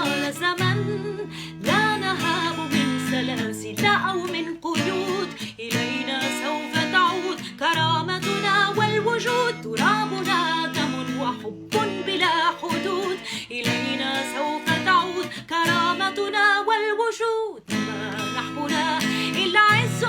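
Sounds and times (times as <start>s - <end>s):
plucked and strummed guitar: 0.0s - 20.0s.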